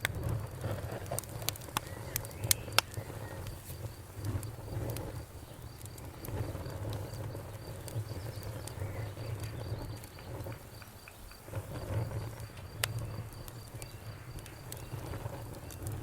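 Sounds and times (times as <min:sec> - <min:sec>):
fire crackles and pops: 0:00.0 - 0:16.0
fire rumbling: 0:00.0 - 0:16.0.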